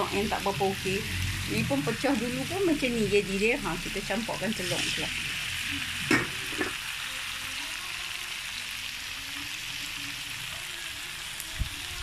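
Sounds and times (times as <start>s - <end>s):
egg sizzling in hot oil: 0.0s - 12.0s.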